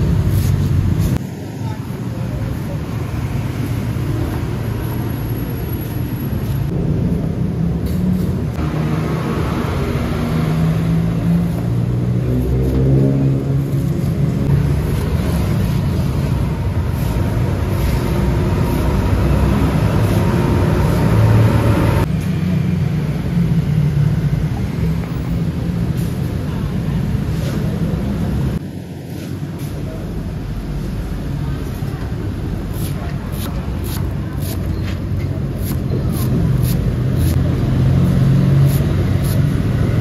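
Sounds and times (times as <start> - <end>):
motor traffic rumble: 0.0 - 40.0.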